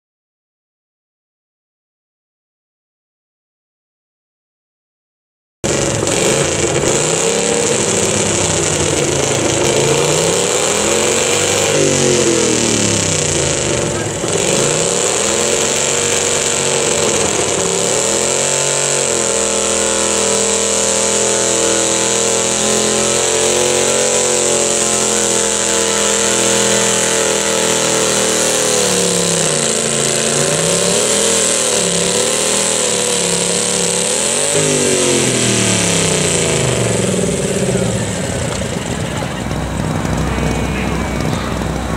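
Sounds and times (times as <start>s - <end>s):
garden tractor engine revving: 5.6s - 41.9s.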